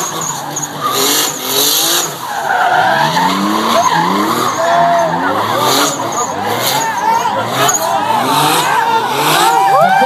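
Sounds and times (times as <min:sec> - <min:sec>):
car engine revving hard: 0:00.0 - 0:10.0
tyres skidding and squealing: 0:00.0 - 0:10.0.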